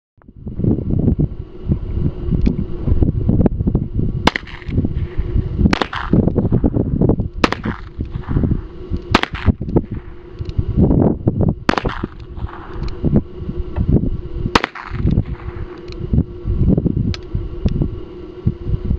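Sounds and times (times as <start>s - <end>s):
wind rumbling on microphone: 0.2s - 18.9s.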